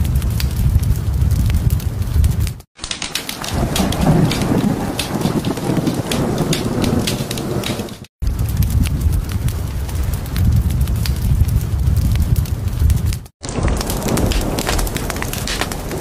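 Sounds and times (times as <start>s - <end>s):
fire crackling: 0.0s - 16.0s
rain falling: 0.0s - 16.0s
thunder rumbling: 0.0s - 16.0s.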